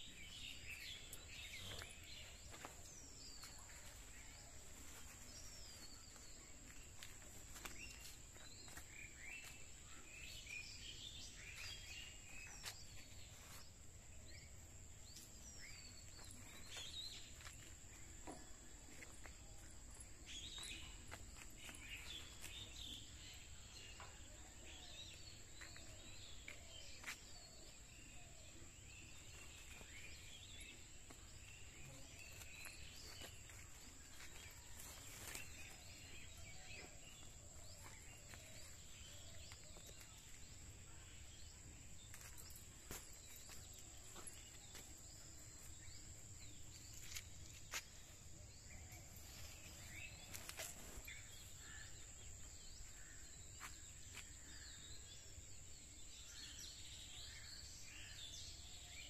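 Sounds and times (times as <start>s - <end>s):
bird chirps: 0.0s - 59.0s.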